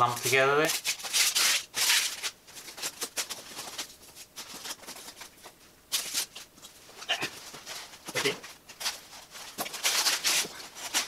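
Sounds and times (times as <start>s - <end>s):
styrofoam blocks scraping: 0.0s - 6.5s, 7.5s - 11.0s
plastic wrap rustling: 0.0s - 11.0s.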